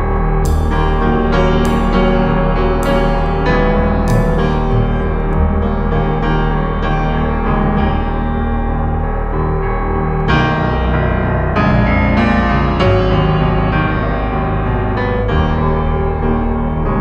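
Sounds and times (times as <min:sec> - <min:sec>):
piano background music: 0:00.0 - 0:17.0.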